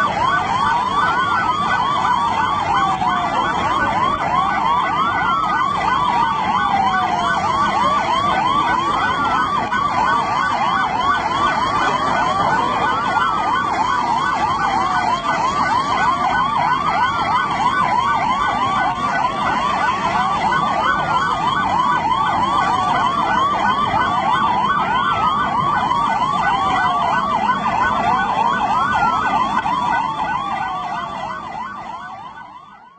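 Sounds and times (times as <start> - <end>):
siren wails: 0.0 - 32.9
siren yelp: 0.0 - 32.9.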